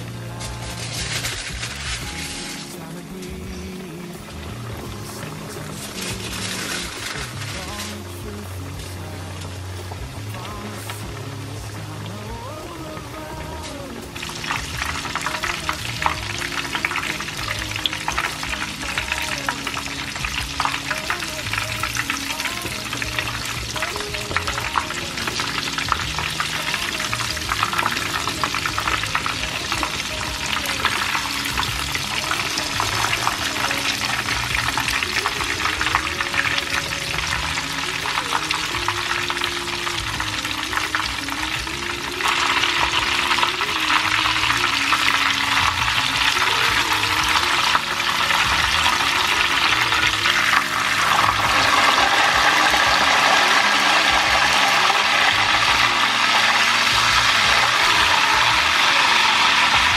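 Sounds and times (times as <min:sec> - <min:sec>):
steaks sizzling in hot oil: 0:00.0 - 0:59.9.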